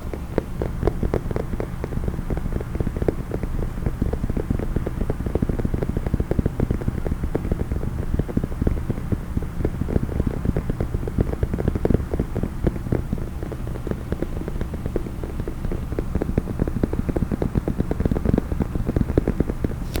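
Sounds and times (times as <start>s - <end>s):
finger tapping on hard case: 0.0s - 19.8s.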